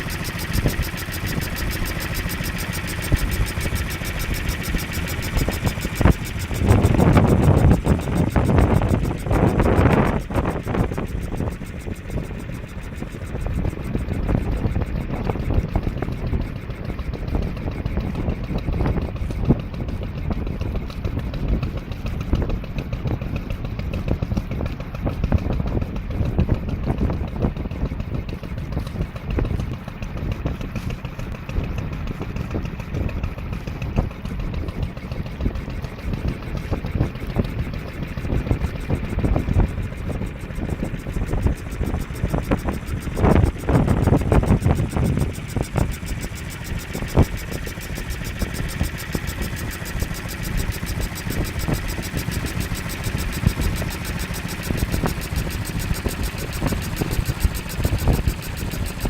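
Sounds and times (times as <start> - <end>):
marine engine running: 0.0 - 59.0.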